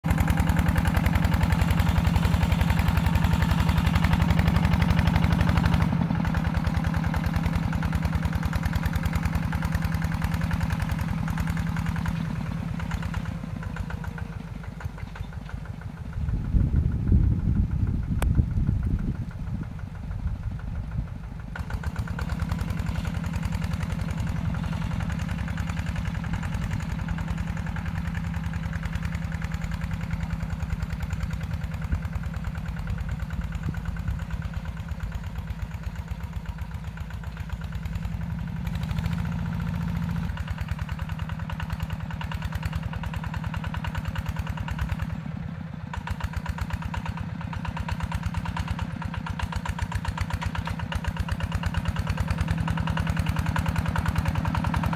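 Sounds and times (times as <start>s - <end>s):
diesel engine chugging: 0.0s - 54.9s.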